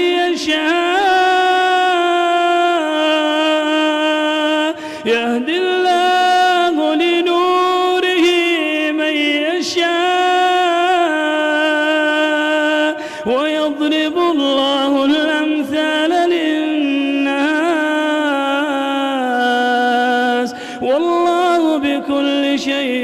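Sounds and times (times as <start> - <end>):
man reciting melodically: 0.0 - 23.0.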